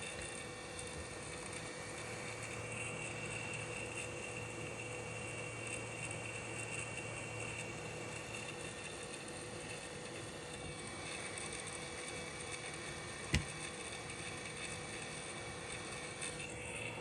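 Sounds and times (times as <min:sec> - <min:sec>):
faint whine: 0:00.0 - 0:17.0.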